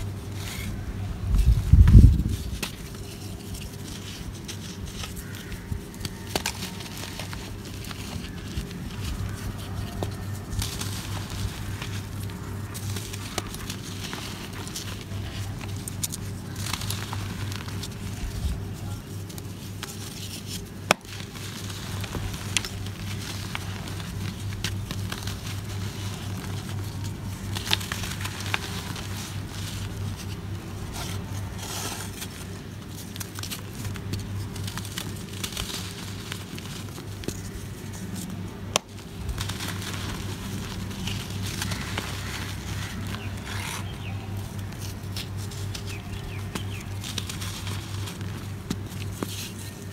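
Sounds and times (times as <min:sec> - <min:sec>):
earth crumbling between hands: 0:00.0 - 0:49.9
low steady hum: 0:00.0 - 0:49.9.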